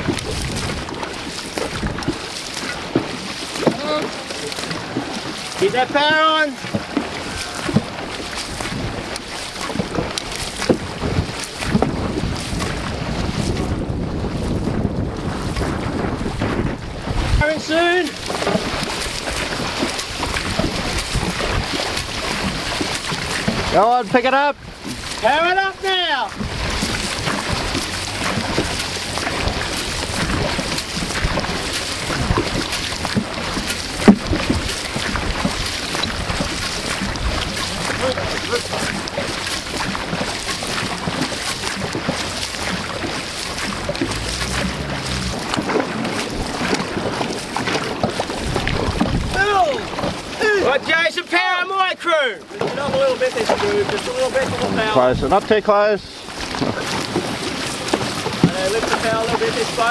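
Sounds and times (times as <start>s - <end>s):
wind buffeting microphone: 0.0s - 51.0s, 52.5s - 59.9s
hull rushing through water: 0.0s - 59.9s
paddles splashing: 0.0s - 59.9s.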